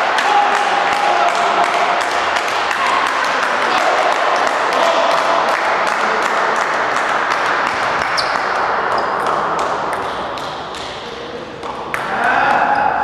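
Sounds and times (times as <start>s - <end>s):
murmur of background noise: 0.0s - 13.0s.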